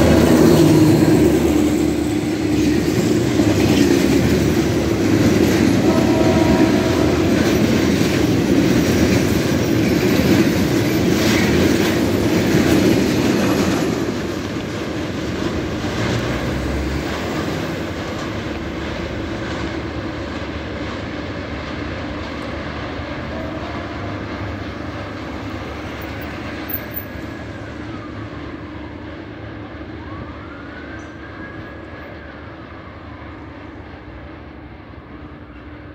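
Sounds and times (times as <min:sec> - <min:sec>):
freight wagons rumbling on rails: 0:00.0 - 0:35.9.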